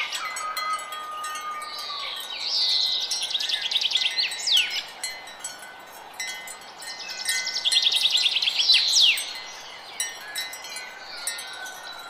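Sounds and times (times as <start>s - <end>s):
bird chirping: 0.0s - 4.9s, 7.0s - 12.0s
wind chime tinkling: 0.0s - 12.0s.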